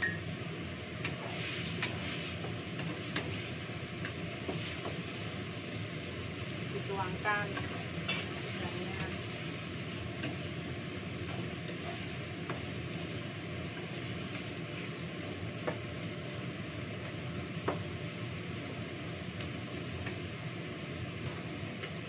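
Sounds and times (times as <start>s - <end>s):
vegetables sizzling in frying pan: 0.0s - 22.0s.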